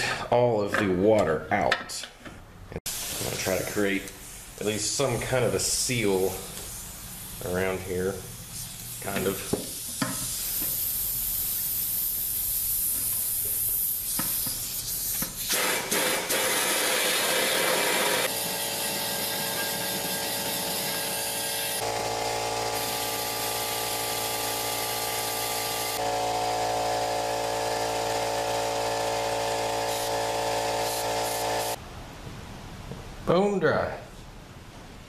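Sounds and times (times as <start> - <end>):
compressed air hissing through tank: 2.9 - 21.9, 22.6 - 31.8.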